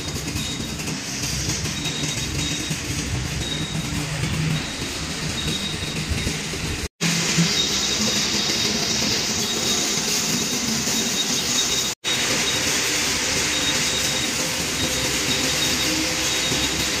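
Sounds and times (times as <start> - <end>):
wire drawing machine running: 0.0 - 17.0.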